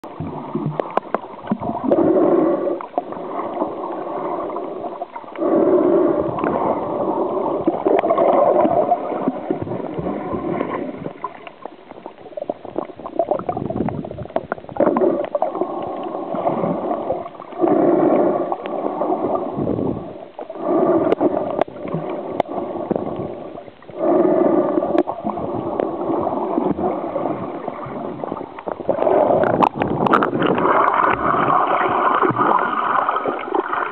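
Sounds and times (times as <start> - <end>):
muffled underwater gurgling: 0.0 - 33.9.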